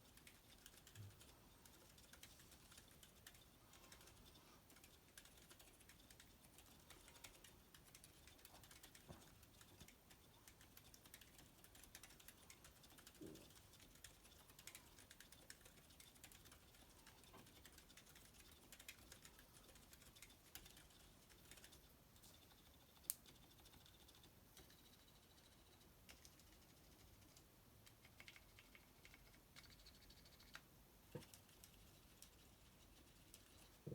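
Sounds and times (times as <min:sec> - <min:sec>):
soft keyboard typing: 0:00.0 - 0:33.9.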